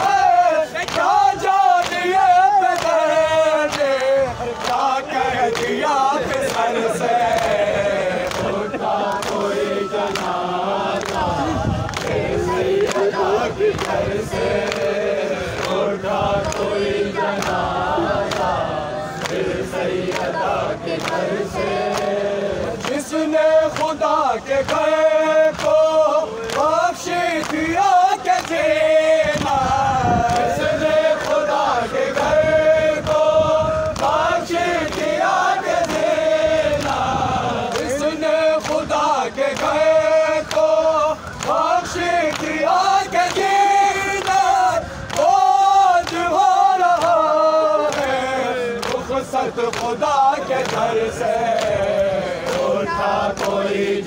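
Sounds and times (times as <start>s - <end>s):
men chanting in unison: 0.0s - 54.0s.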